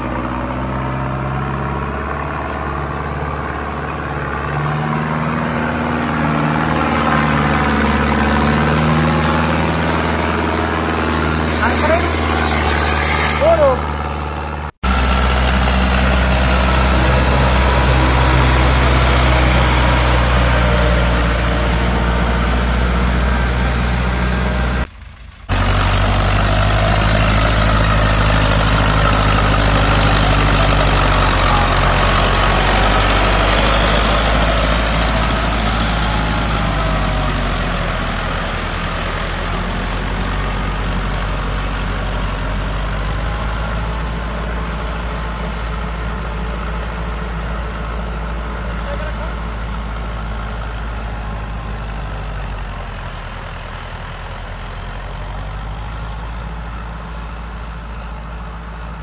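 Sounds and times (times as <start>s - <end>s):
heavy engine idling: 0.0s - 59.0s.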